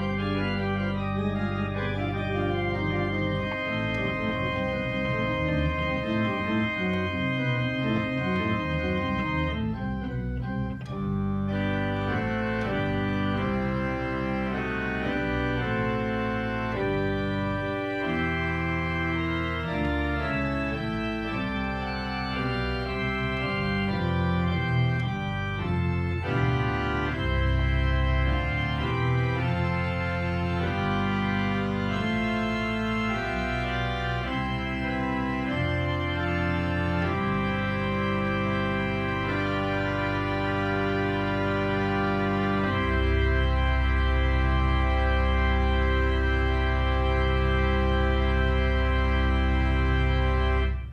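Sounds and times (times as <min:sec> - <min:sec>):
organ music: 0:00.0 - 0:50.9.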